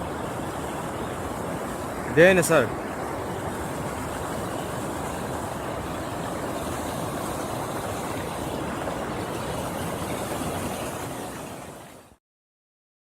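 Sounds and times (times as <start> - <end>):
mountain stream rushing: 0.0 - 12.2.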